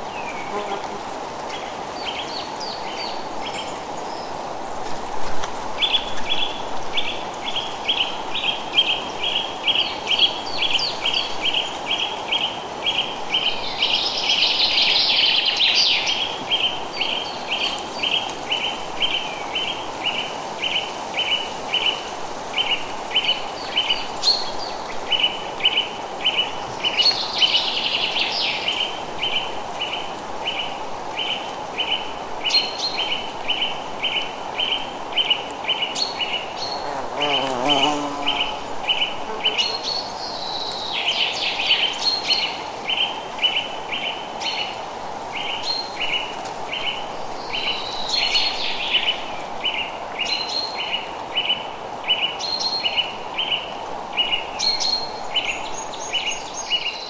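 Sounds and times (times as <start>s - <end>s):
wind in trees: 0.0s - 57.0s.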